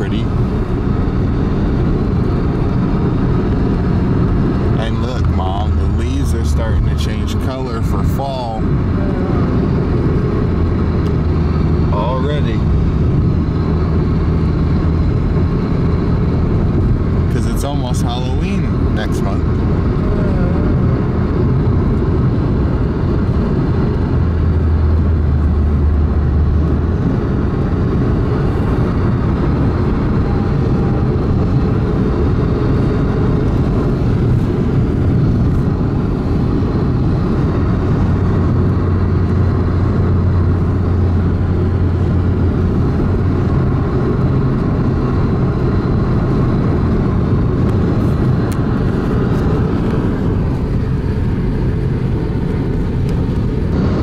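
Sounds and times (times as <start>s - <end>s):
car tyre and engine noise: 0.0s - 54.0s
deep low hum: 0.0s - 54.0s.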